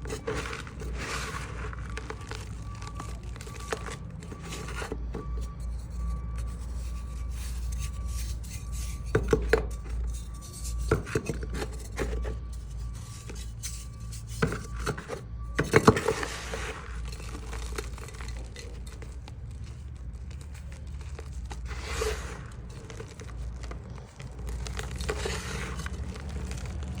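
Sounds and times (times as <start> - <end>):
chalk snapping and crumbling: 0.0 - 27.0.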